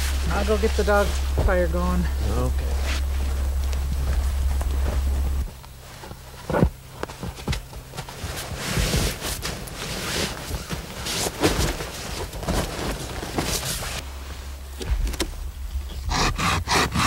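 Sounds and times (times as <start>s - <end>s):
sleeping bags rustling: 0.0s - 15.9s.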